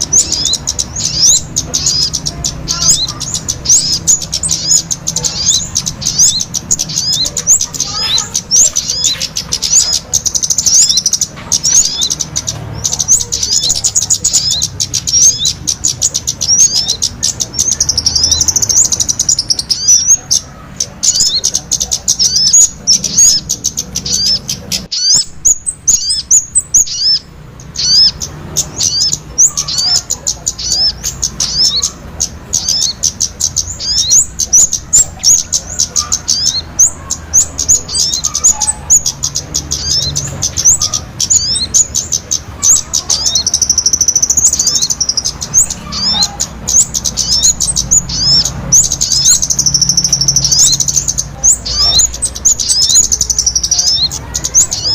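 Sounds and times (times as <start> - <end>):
many small birds chirping: 0.0 - 54.9.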